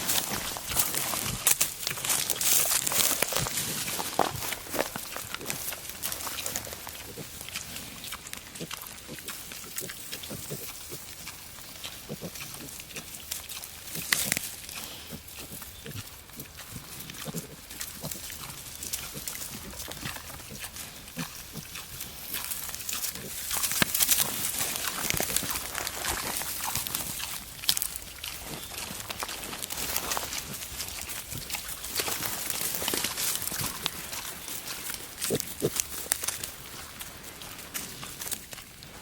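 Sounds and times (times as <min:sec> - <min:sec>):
boar and piglets grunting: 0:00.0 - 0:39.0
rustling on forest floor: 0:00.0 - 0:39.0.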